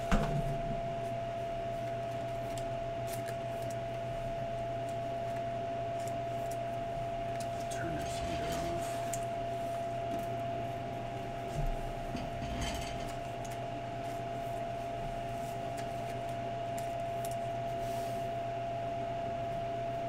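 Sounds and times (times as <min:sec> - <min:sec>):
room hum with high tone: 0:00.0 - 0:20.0.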